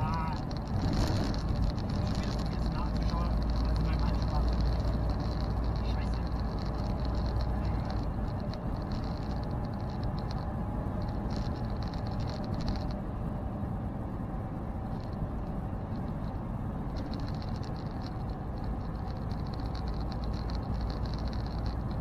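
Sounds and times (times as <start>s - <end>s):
truck engine and tyres rumbling: 0.0s - 22.0s.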